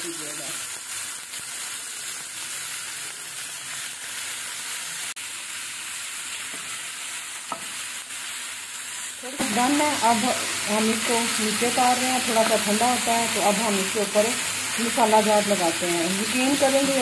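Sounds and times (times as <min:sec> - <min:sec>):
beef sizzling in a frying pan: 0:00.0 - 0:17.0.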